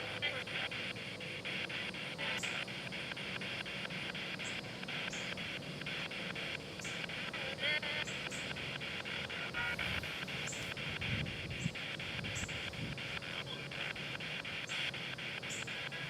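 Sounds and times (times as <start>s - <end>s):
radio static in short bursts: 0.0s - 16.0s
snatches of broadcast sound: 0.0s - 16.0s.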